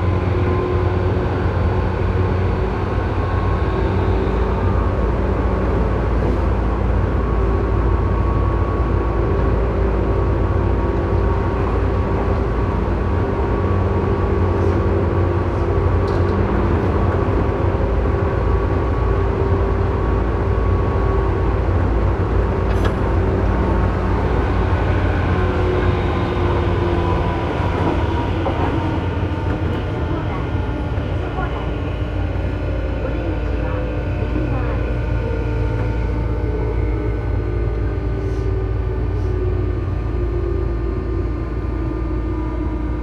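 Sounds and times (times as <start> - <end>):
electric train motor whine: 0.0 - 43.0
rumble of train wheels: 0.0 - 43.0.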